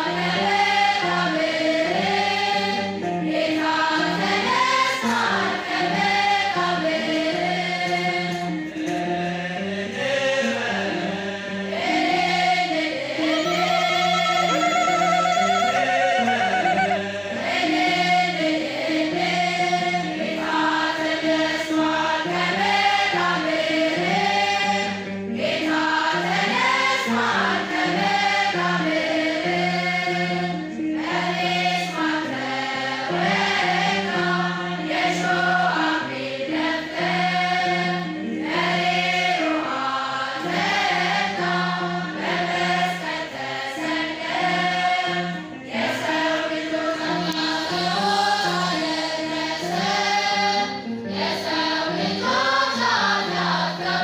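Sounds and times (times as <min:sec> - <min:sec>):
women's choir singing a hymn: 0:00.0 - 0:54.0.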